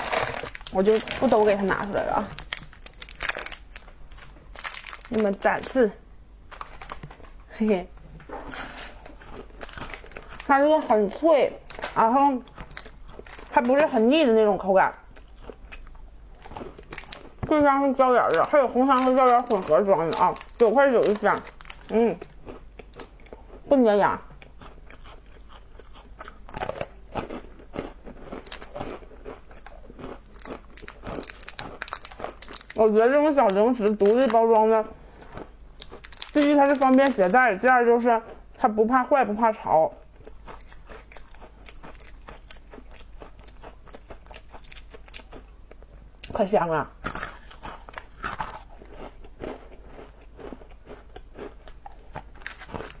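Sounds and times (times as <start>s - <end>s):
crunchy chewing of snack: 0.0s - 5.4s, 9.0s - 10.6s, 11.6s - 14.0s, 15.1s - 38.5s, 40.1s - 46.4s, 47.0s - 53.0s.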